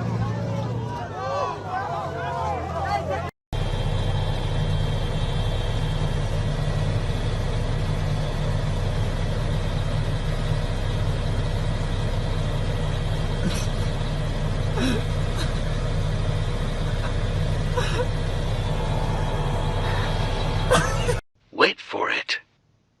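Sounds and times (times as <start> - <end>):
low mechanical engine drone: 0.0 - 21.2.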